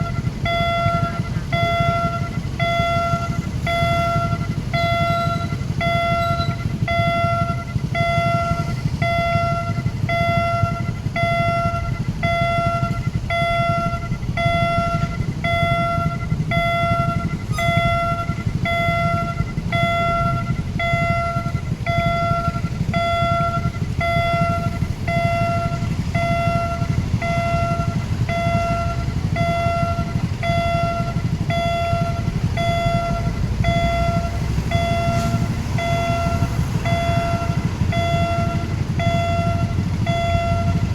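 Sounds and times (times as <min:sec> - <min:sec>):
level crossing alarm beeping: 0:00.0 - 0:40.9
low rumble: 0:00.0 - 0:40.9.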